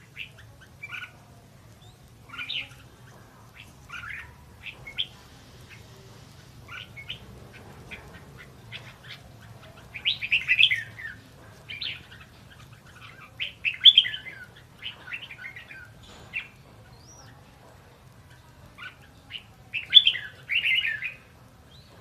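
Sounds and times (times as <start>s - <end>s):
bulbul singing chirped phrases: 0.0s - 21.3s.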